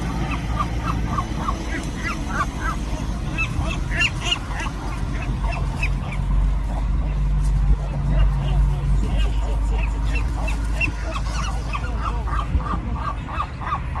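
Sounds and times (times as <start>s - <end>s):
seagulls calling harshly: 0.0s - 14.0s.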